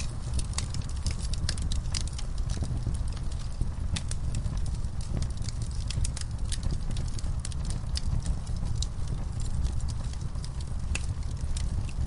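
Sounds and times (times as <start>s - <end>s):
fireplace fire crackling: 0.0s - 12.0s.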